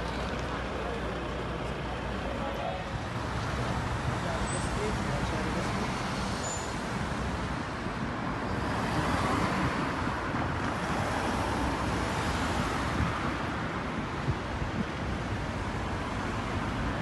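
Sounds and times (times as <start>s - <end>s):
road traffic rushing past: 0.0s - 17.0s.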